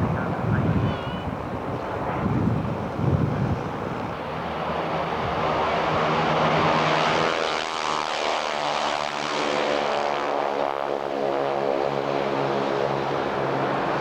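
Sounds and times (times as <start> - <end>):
propeller aircraft engine: 0.0 - 14.0.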